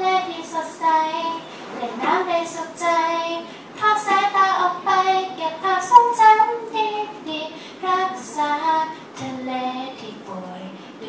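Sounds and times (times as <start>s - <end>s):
woman singing into microphone: 0.0s - 11.0s.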